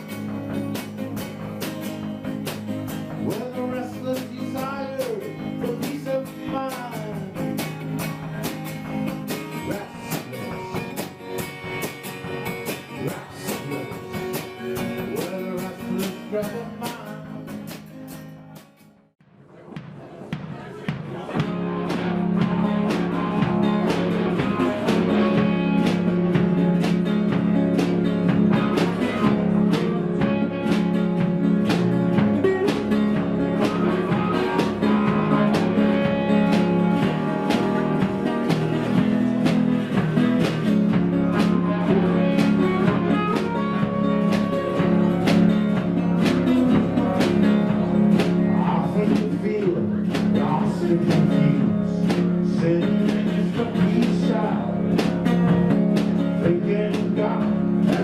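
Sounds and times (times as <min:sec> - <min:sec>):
guitar-led instrumental music: 0:00.0 - 0:19.2, 0:21.2 - 0:58.0.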